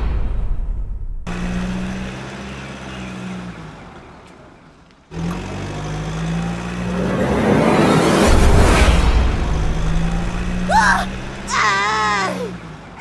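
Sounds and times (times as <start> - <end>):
vehicle engine humming: 1.2 - 13.0.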